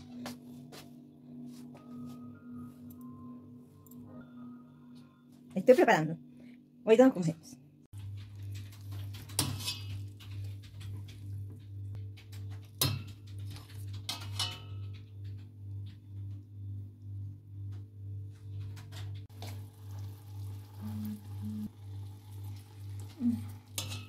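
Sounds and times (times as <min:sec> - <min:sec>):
low rhythmic hum: 0:00.0 - 0:24.0.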